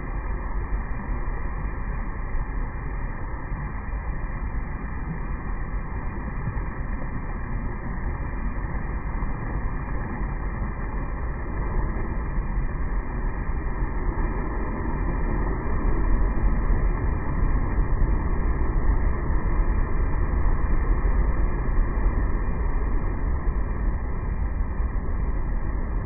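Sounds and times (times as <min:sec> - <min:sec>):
ocean waves washing in: 0:00.0 - 0:26.0.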